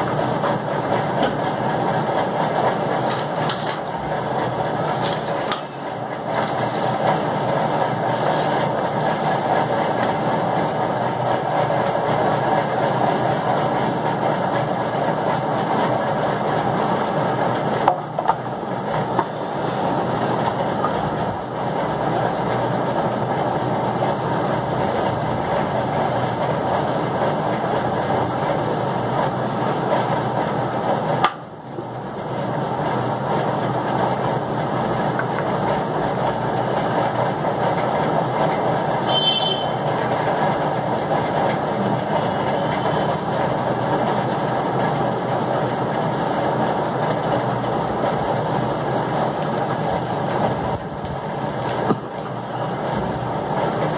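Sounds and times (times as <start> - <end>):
steady mechanical drone: 0.0 - 53.9.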